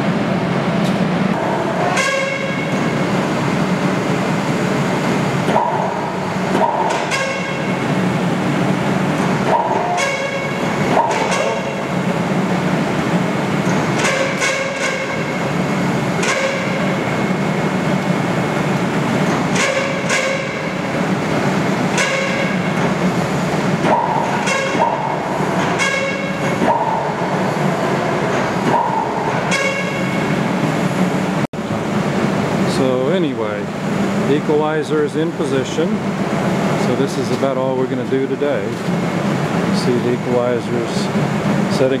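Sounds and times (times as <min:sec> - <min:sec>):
passing train rumble: 0:00.0 - 0:42.0.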